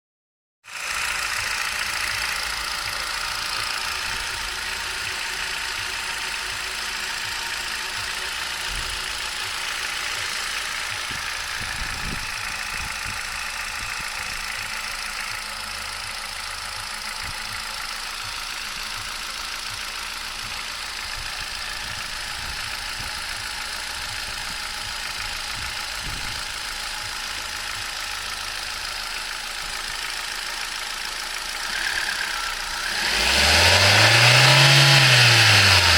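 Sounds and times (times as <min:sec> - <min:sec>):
car engine idling: 0:00.7 - 0:35.9.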